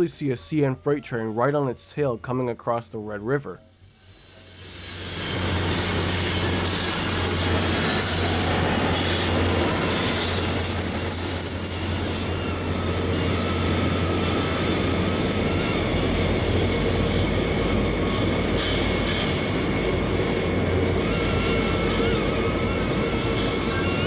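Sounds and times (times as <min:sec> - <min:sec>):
high-pitched squeal: 0:03.4 - 0:24.0
train running on rails: 0:03.5 - 0:24.0.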